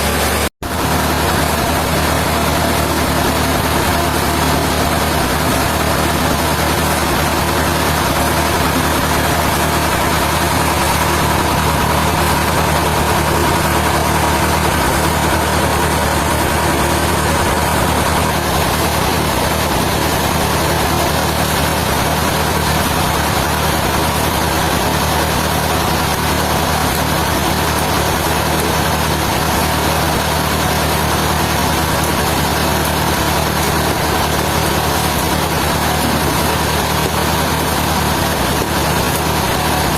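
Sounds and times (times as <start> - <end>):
high machine whine: 0.0 - 39.9
sawmill machinery humming: 0.0 - 39.9.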